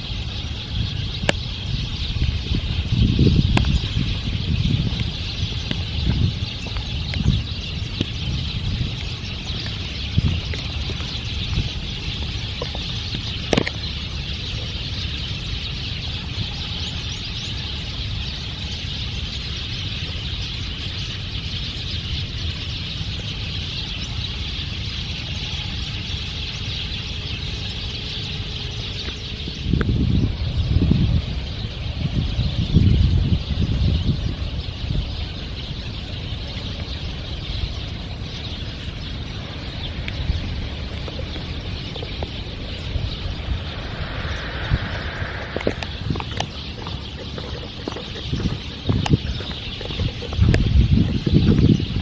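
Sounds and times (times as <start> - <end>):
flock of small birds chattering: 0.0 - 52.0.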